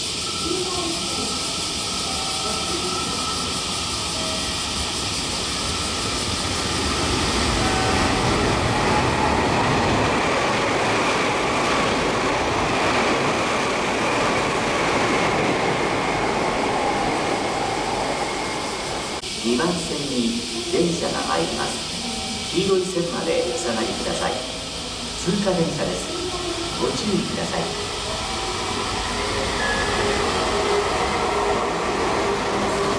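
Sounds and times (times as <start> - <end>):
train passing at speed: 0.0 - 32.9.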